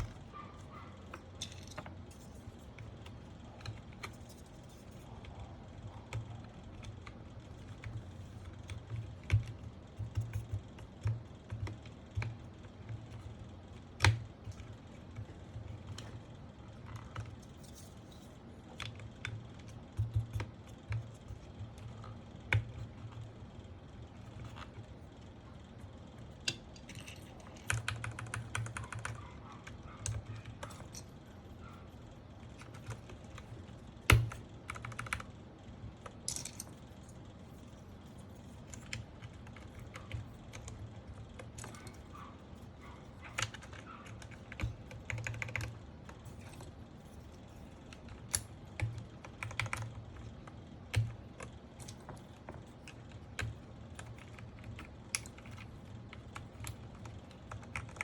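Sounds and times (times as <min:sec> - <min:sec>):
mechanical keyboard clacking: 0:00.0 - 0:18.0, 0:18.7 - 0:23.3, 0:26.4 - 0:31.8, 0:32.4 - 0:36.8, 0:38.5 - 0:58.0.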